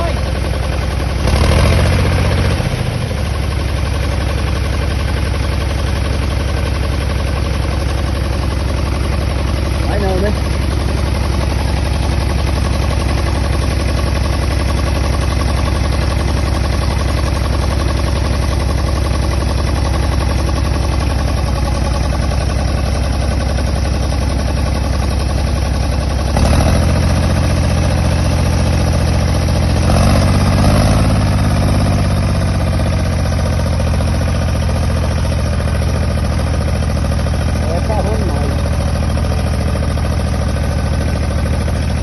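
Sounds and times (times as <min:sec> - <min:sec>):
tractor engine running and revving: 0:00.0 - 0:42.0.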